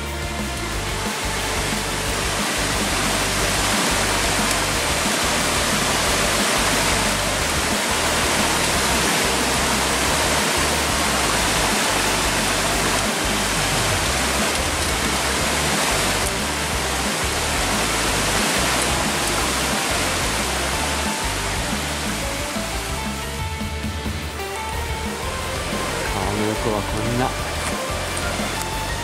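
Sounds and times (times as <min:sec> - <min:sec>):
music: 0:00.0 - 0:29.0
water rushing over rocks: 0:00.0 - 0:29.0.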